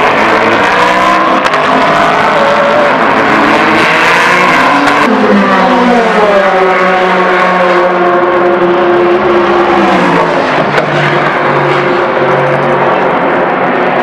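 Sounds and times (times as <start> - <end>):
race car engine passing: 0.0 - 14.0.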